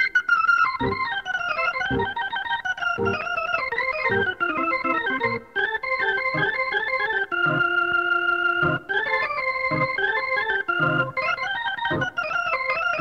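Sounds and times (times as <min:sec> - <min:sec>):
slow blues on organ: 0:00.0 - 0:13.0.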